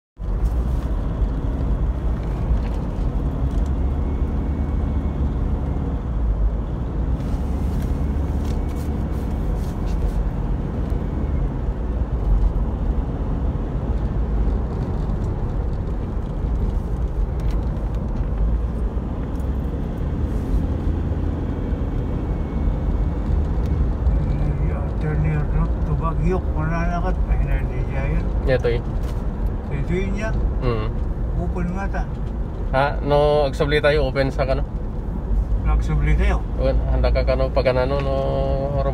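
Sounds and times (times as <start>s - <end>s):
car engine rumble from inside: 0.2s - 38.9s
tyres on road: 0.2s - 38.9s.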